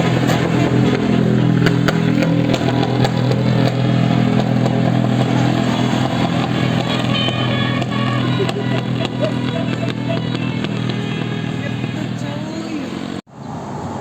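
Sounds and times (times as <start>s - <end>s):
vehicle engine running: 0.0s - 13.3s.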